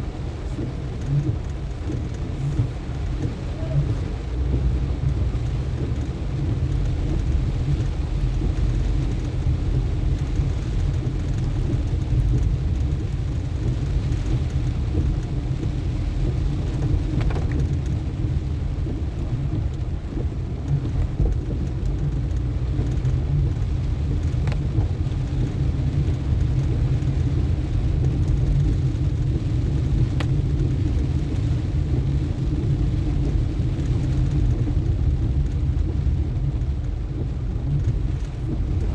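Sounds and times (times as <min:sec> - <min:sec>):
car driving on wet road: 0:00.0 - 0:38.9
faint ticks: 0:00.5 - 0:25.4, 0:28.0 - 0:38.9.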